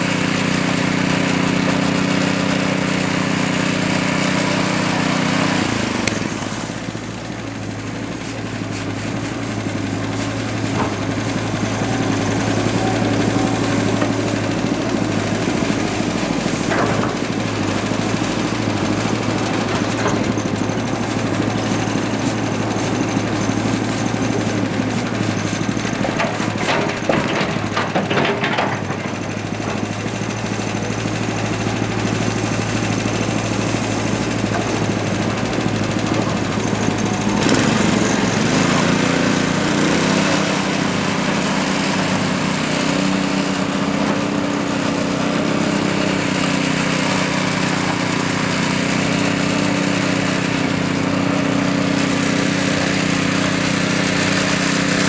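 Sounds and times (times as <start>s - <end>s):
small petrol engines running: 0.0s - 55.0s.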